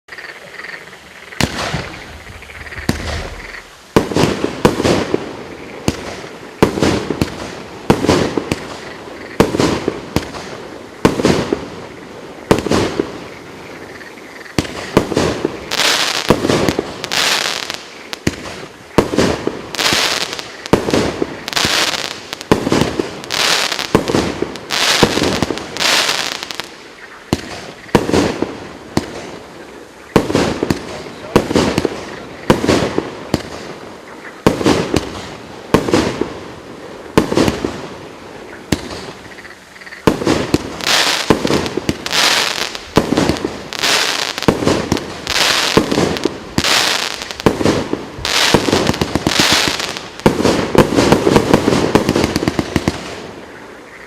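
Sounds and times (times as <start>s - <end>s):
hissing crackle: 0.4s - 54.0s
fireworks shots: 1.4s - 13.4s, 14.5s - 29.4s, 30.1s - 33.8s, 34.4s - 38.0s, 38.7s - 39.2s, 40.0s - 53.4s.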